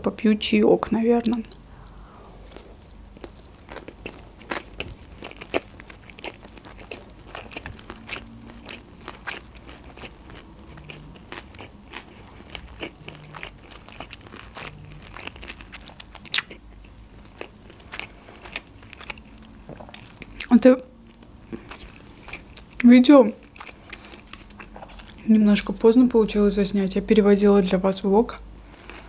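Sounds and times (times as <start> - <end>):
person chewing food: 1.4 - 25.3, 28.4 - 29.0.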